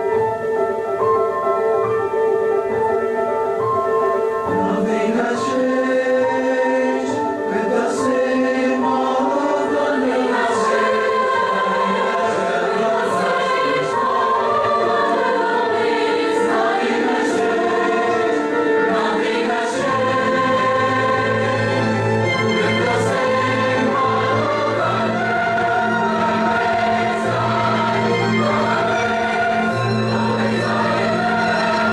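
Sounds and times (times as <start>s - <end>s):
choir singing: 4.6s - 31.9s.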